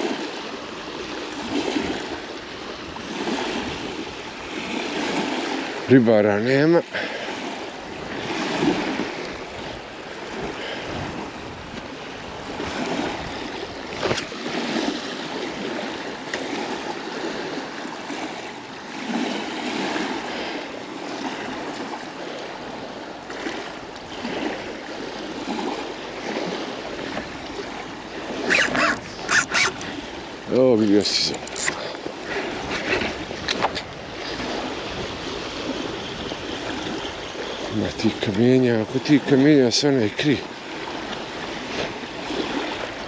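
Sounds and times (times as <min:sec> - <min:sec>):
waves lapping on pebble shore: 0:00.0 - 0:43.0.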